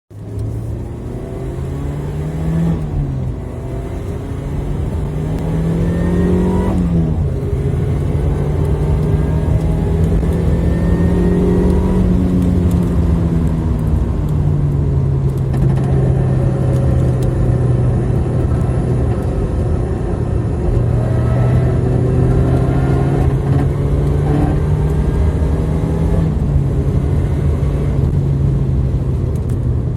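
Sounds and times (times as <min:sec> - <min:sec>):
car engine accelerating through gears: 0:00.1 - 0:29.9
road noise: 0:00.1 - 0:29.9.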